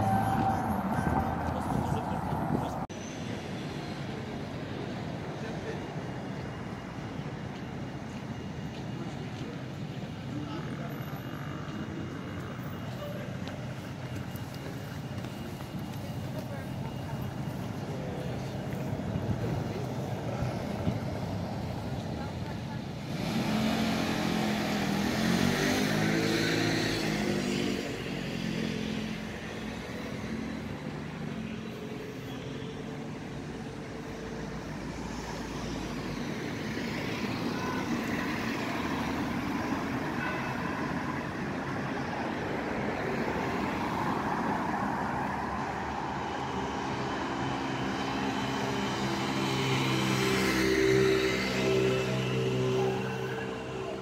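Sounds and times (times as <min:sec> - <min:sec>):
steady traffic hum: 0:00.0 - 0:54.0
vehicles driving past: 0:00.0 - 0:54.0.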